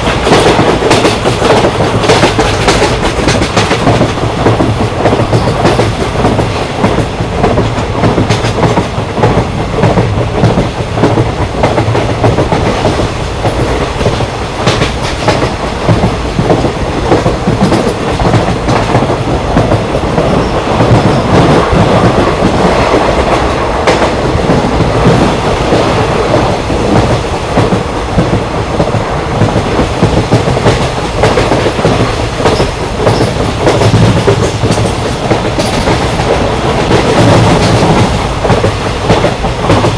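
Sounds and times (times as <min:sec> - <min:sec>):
railway carriage rumble: 0:00.0 - 0:39.9
wheels clacking over rail joints: 0:00.0 - 0:39.9.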